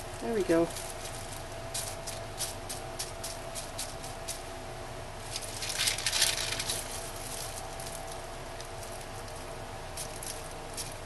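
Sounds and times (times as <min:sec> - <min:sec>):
bubble wrap crinkling: 0:00.6 - 0:04.5, 0:05.2 - 0:11.0.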